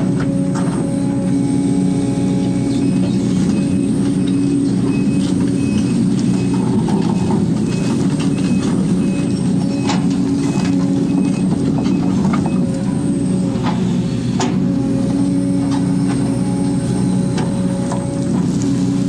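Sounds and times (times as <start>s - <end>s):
excavator diesel engine and hydraulics: 0.0s - 19.0s.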